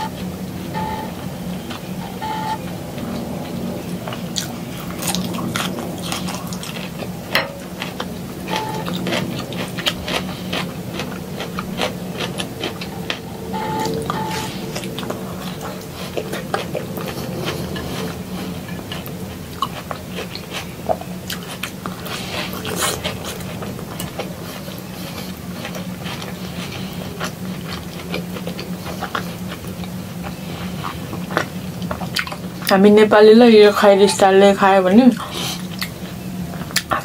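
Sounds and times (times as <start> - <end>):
person chewing food: 0.0 - 32.8, 35.2 - 37.0
low steady hum: 0.0 - 37.0.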